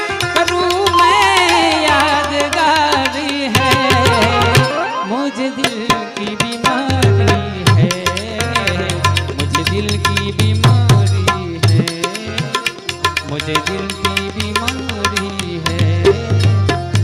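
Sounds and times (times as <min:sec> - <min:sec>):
tabla strikes: 0:00.0 - 0:17.0
person singing devotional song: 0:00.2 - 0:17.0.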